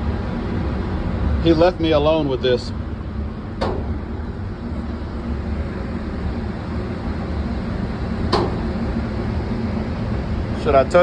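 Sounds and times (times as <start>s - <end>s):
indoor room rumble: 0.0s - 11.0s.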